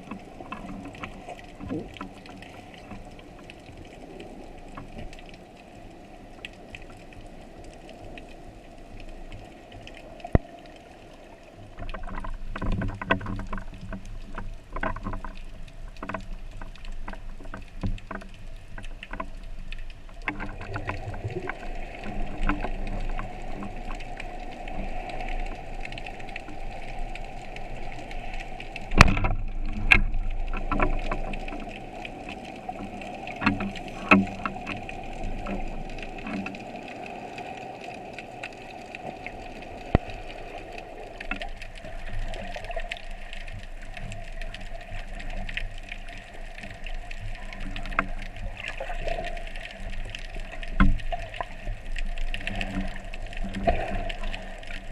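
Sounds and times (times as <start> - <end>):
clicks and knocks underwater: 0.0 - 54.9
underwater hum: 0.0 - 54.9.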